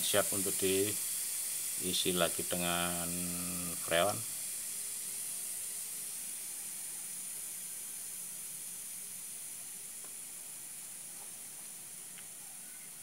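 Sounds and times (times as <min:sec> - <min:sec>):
hiss of escaping refrigerant: 0:00.0 - 0:13.0.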